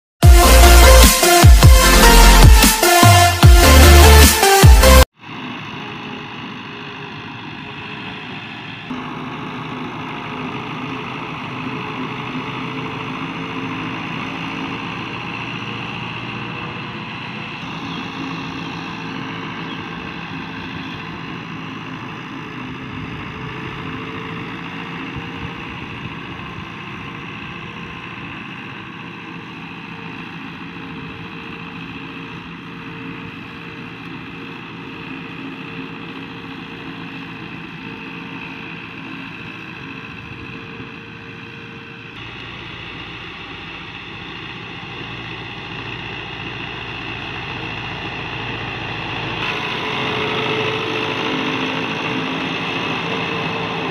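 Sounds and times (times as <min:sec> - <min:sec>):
tractor diesel engine under load: 0:00.2 - 0:53.9.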